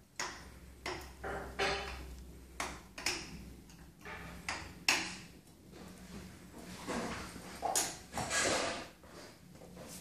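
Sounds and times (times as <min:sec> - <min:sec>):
irregular knocks and rattles: 0:00.2 - 0:08.9.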